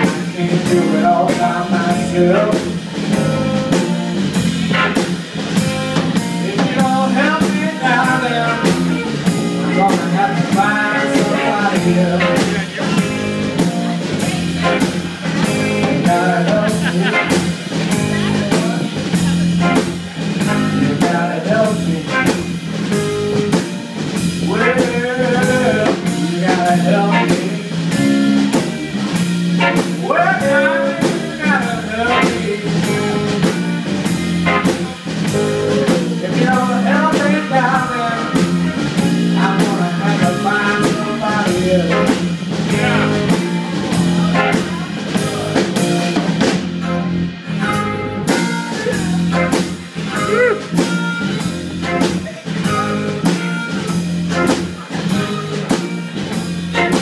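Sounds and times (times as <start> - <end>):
drum kit beat: 0.0 - 57.0
electric bass: 0.0 - 57.0
electric guitar: 0.0 - 57.0.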